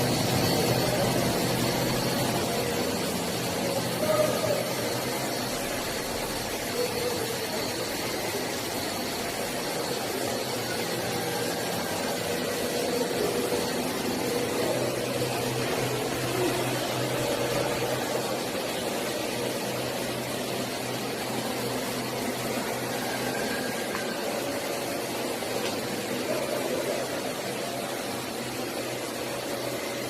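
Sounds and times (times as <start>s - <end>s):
machine hum and hiss: 0.0s - 30.0s.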